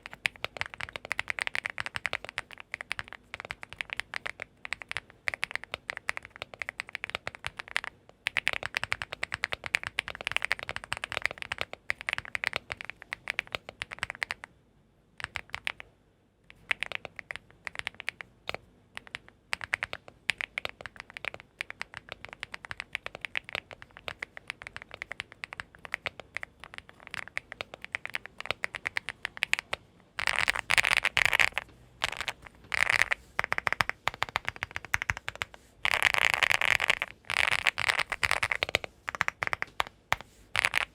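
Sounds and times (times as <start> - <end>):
mechanical keyboard typing: 0.0 - 14.5, 15.2 - 15.9, 16.5 - 40.9.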